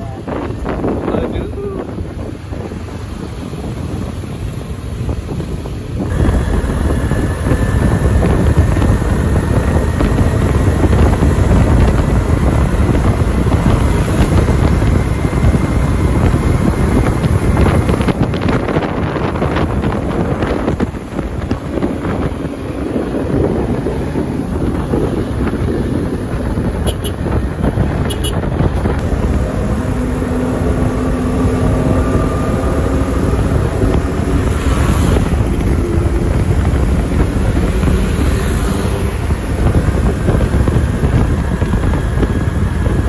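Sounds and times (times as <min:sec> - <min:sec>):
bus engine rumble: 0:00.0 - 0:43.0
wind buffeting microphone: 0:00.0 - 0:43.0.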